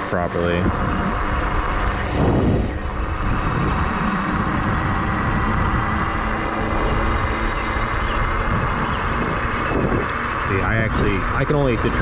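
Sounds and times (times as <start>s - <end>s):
bike tyre noise: 0.0s - 12.0s
electric motor whine: 0.0s - 12.0s
wind buffeting microphone: 0.2s - 12.0s.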